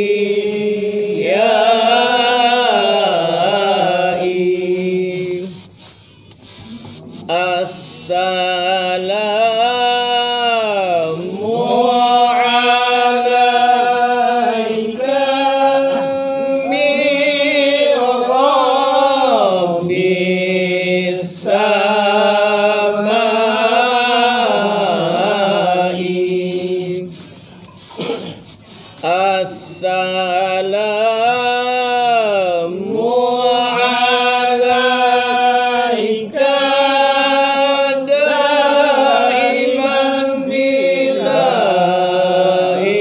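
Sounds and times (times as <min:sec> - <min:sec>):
men chanting: 0:00.0 - 0:05.6, 0:07.2 - 0:27.2, 0:29.0 - 0:43.0.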